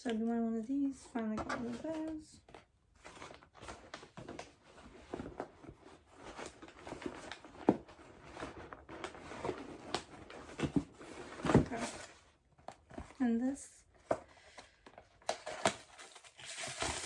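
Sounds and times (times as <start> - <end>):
packaging taps and rustles: 1.4 - 13.2, 14.0 - 17.0.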